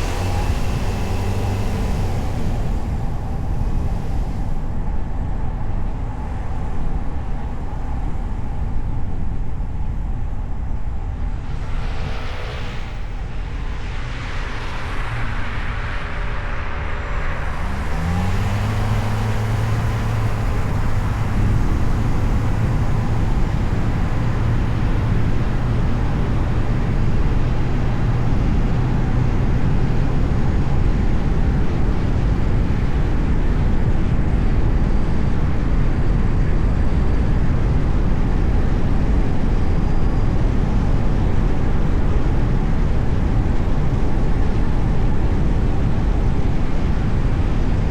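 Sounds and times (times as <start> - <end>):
low engine hum: 0.0 - 47.9
road and tyre noise: 0.0 - 47.9.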